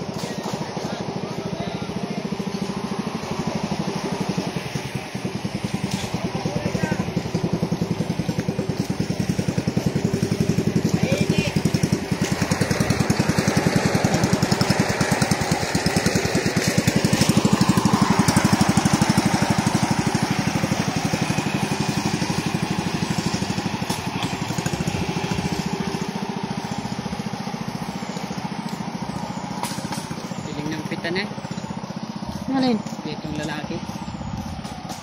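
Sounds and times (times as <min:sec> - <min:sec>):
motorcycle engine puttering: 0:00.0 - 0:35.0.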